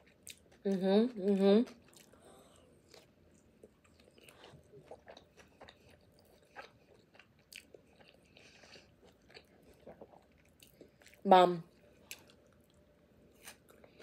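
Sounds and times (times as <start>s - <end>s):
person chewing food: 0.0s - 0.7s, 1.3s - 14.0s.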